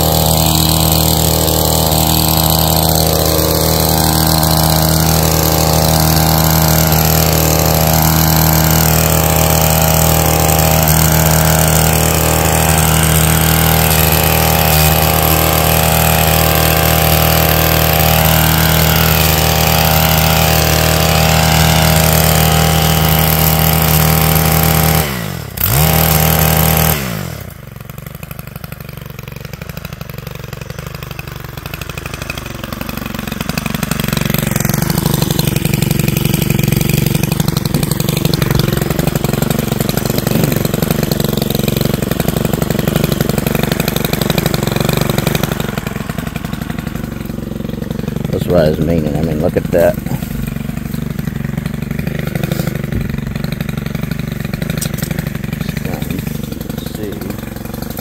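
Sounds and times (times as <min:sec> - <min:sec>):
small engine power scythe running: 0:00.0 - 0:58.0.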